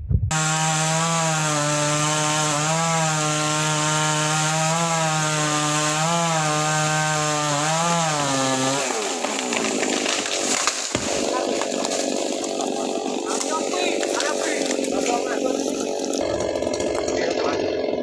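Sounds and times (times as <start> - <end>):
chainsaw cutting at full throttle: 0.3 - 18.0.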